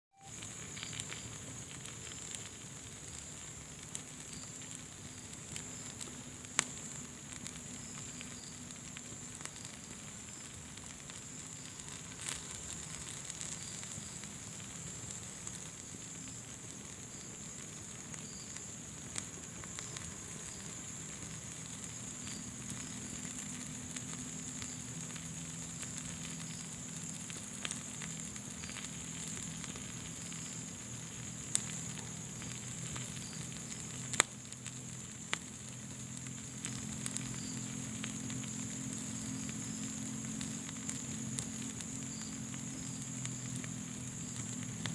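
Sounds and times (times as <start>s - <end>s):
fire crackling: 0.1s - 44.9s
fire popping: 0.1s - 44.9s.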